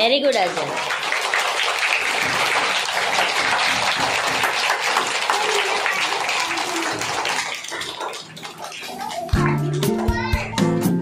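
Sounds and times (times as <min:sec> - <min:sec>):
children clapping: 0:00.0 - 0:10.6.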